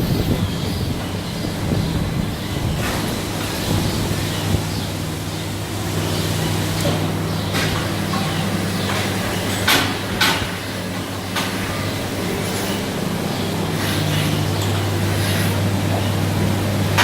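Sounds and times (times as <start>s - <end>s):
milking machinery humming: 0.0s - 17.0s.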